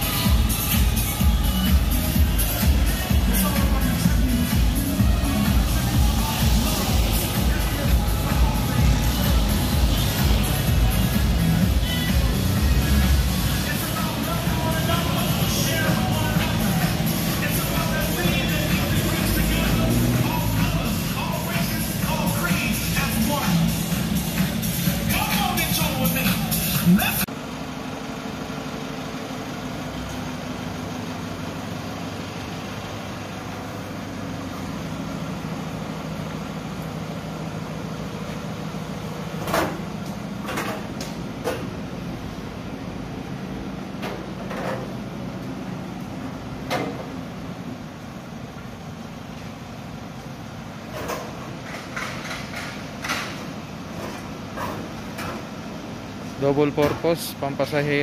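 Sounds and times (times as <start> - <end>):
van engine idling: 0.0 - 58.0.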